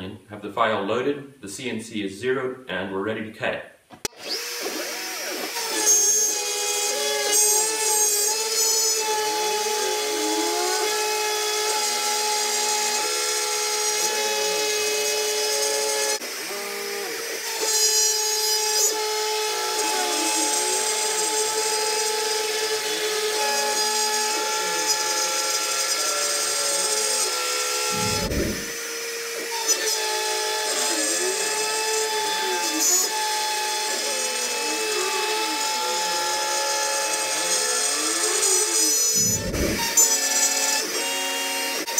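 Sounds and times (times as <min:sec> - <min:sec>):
router spindle whining cutting plywood: 0:04.1 - 0:41.9.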